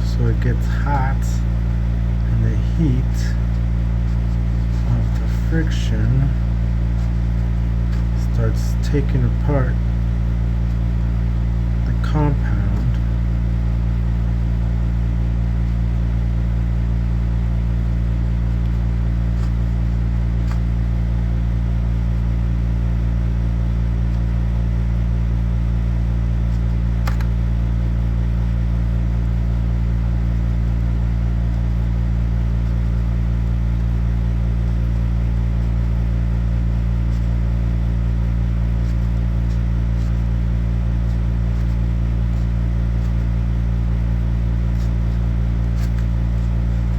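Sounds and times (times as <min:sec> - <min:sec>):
loud low machine hum: 0:00.0 - 0:46.9.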